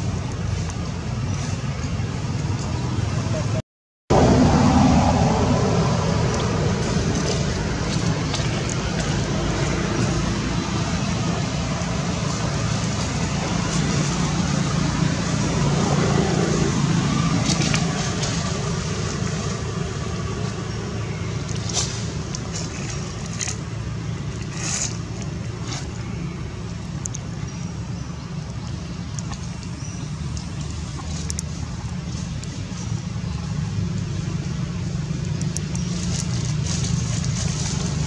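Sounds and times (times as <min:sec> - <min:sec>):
low background rumble: 0:00.0 - 0:38.0.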